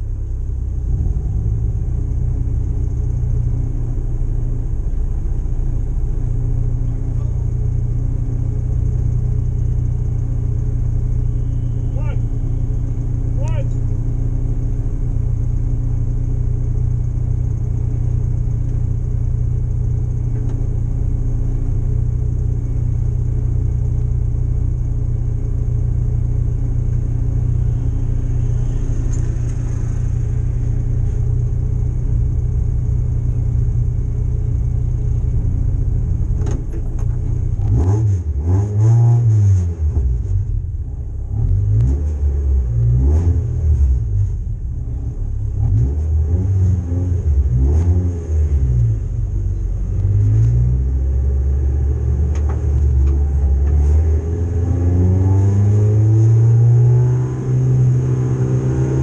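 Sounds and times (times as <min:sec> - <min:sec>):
race car engine idling and revving: 0:00.0 - 0:59.0.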